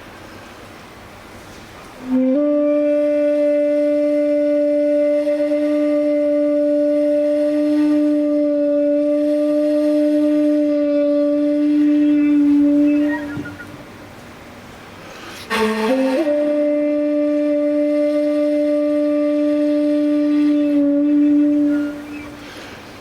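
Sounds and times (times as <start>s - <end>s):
long wind instrument note: 2.0s - 13.9s, 15.4s - 22.7s.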